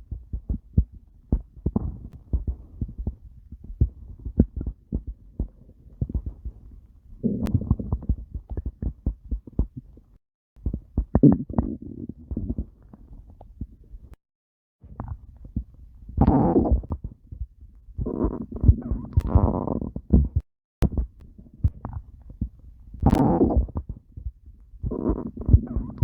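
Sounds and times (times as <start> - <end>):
stomach growling: 0.0 - 13.8, 14.8 - 26.0.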